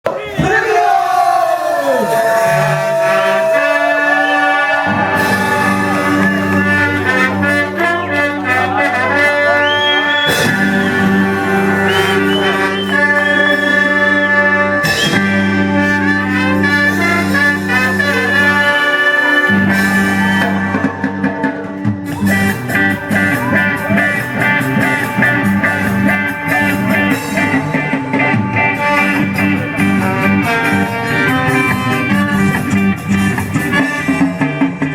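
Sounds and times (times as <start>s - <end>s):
bass line: 0.0s - 34.9s
ska band music: 0.1s - 34.9s
brass horn section: 0.4s - 34.5s
beat: 2.1s - 34.9s
guitar chords: 2.4s - 34.9s.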